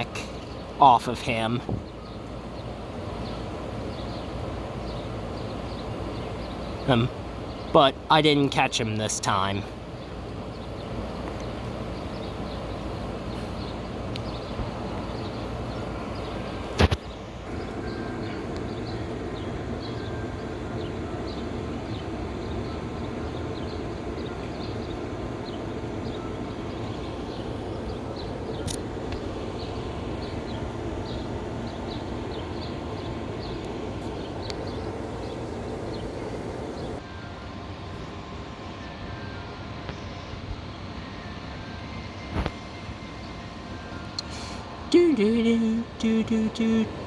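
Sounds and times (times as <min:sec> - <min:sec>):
outdoor rumble and hiss: 0:00.0 - 0:47.0.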